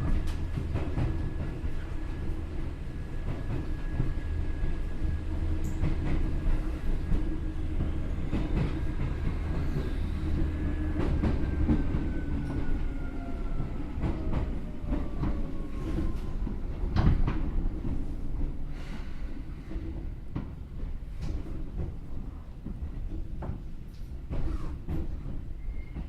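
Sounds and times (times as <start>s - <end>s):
electric train rumbling: 0.0s - 26.0s.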